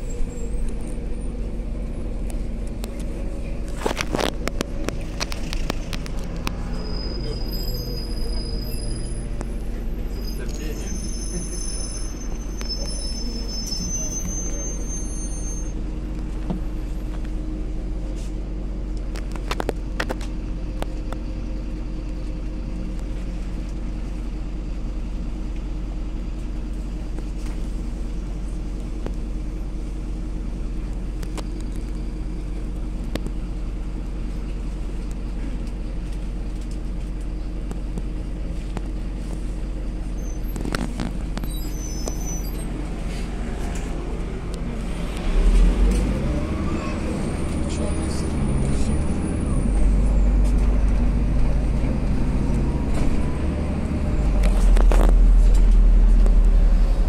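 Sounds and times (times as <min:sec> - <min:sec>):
bus engine hum: 0:00.0 - 0:57.0.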